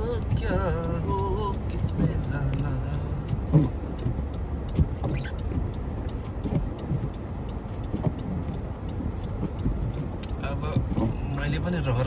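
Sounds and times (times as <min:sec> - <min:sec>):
engine and tyre rumble: 0:00.0 - 0:12.0
light ticks: 0:00.0 - 0:12.0.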